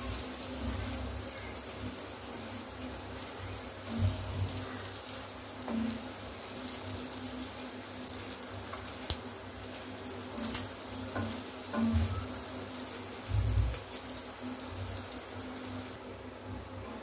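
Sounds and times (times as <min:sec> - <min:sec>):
bread sizzling in oil: 0:00.0 - 0:17.0.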